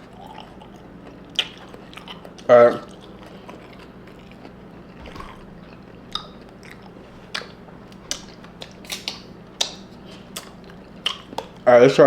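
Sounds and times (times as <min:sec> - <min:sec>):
person chewing crunchy chips: 0:00.0 - 0:11.7.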